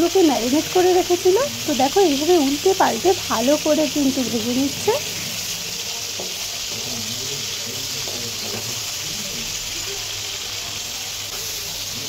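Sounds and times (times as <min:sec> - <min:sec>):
prawns sizzling in hot oil: 0:00.0 - 0:12.0.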